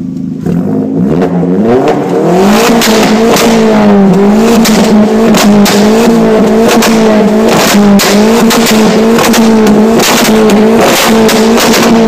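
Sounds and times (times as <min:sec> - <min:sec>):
exhaust backfire pops: 0:00.0 - 0:12.0
car engine revving hard: 0:00.4 - 0:12.0.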